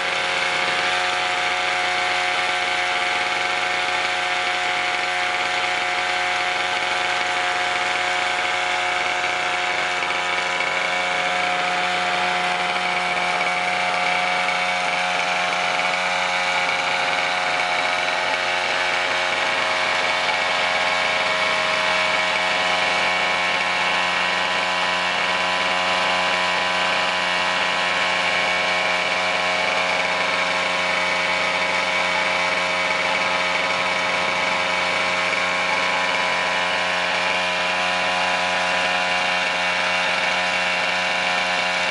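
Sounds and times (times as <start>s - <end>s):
two-stroke engine running: 0.0s - 41.9s.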